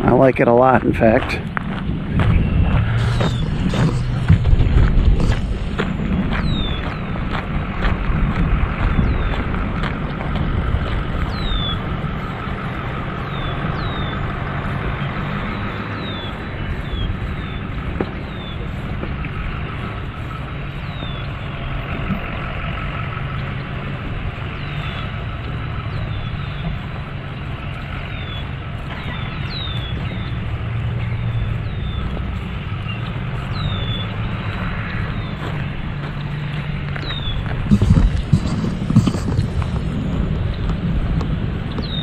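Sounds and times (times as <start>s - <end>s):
birds chirping: 0.0s - 42.0s
steady low rumble: 0.0s - 42.0s.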